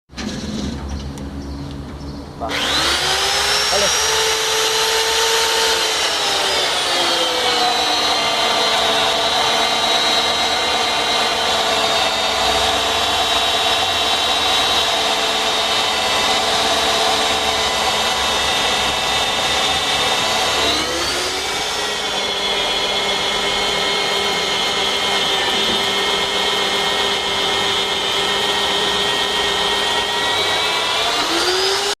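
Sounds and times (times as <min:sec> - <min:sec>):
magnetic drill motor whining: 0:02.5 - 0:32.0.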